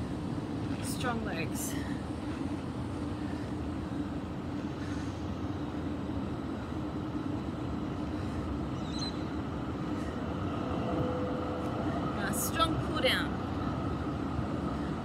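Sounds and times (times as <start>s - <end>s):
low rumble of urban background: 0.0s - 15.0s.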